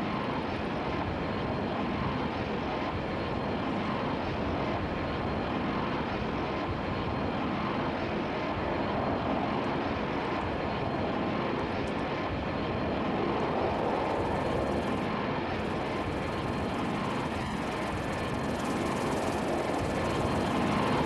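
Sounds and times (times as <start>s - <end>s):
jet airliner rumble overhead: 0.0s - 21.0s.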